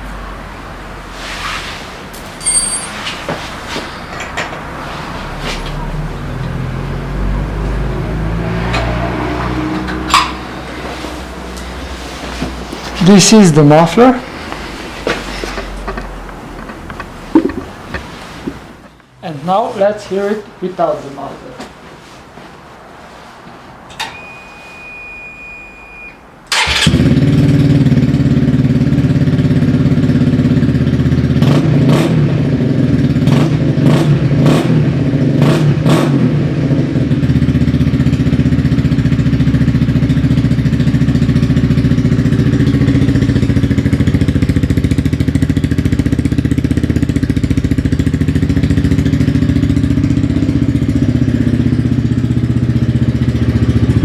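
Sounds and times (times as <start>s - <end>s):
motorcycle engine starting and revving: 2.2s - 13.4s, 14.3s - 18.9s, 26.5s - 54.0s.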